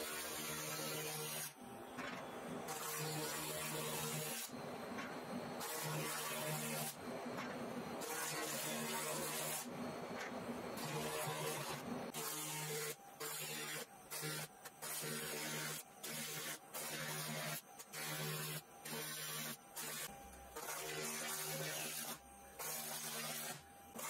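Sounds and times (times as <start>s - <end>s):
laser cleaner buzzing hum with hiss: 0.0s - 24.0s.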